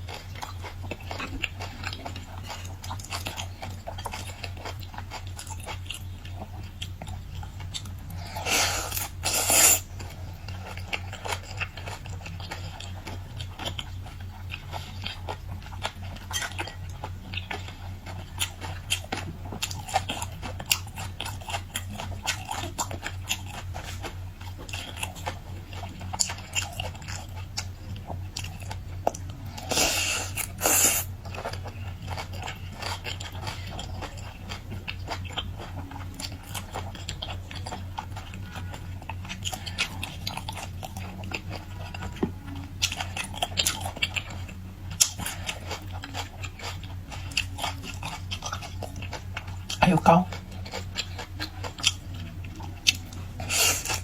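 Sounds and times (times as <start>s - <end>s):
chewing and crunching seafood: 0.0s - 54.0s
low hum: 0.0s - 54.0s.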